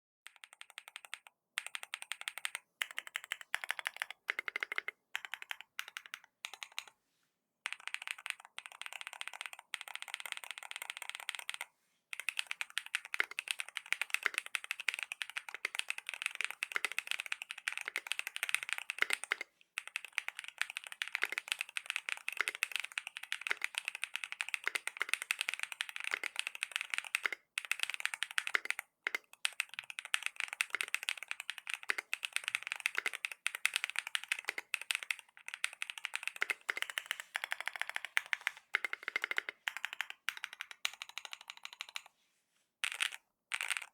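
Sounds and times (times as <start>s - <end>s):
fast mechanical keyboard typing: 0.3s - 6.9s, 7.7s - 42.1s, 42.8s - 43.9s.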